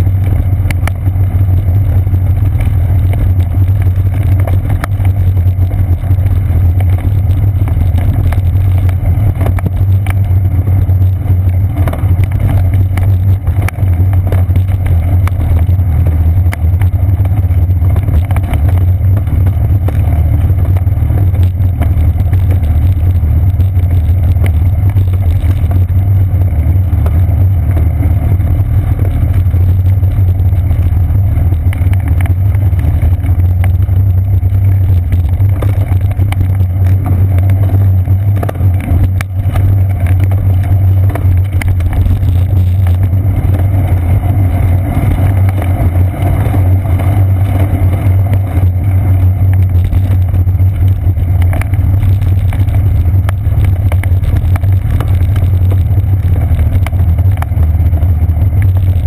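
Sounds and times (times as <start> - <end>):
bicycle rumbling on boardwalk: 0.0 - 59.0.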